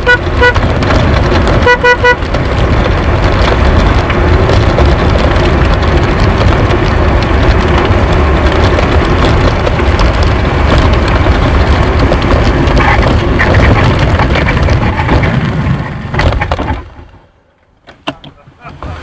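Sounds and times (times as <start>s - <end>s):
cart wheels rumbling and rattling: 0.0s - 19.0s.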